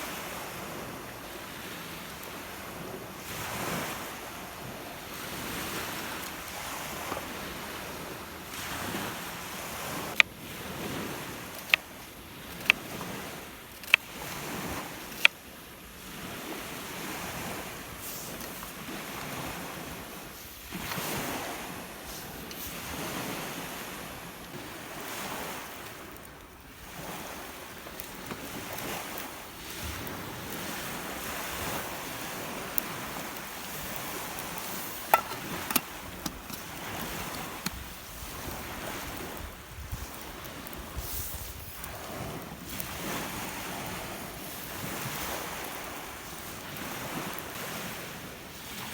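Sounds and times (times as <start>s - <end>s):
lake waves washing onto shore: 0.0s - 48.9s.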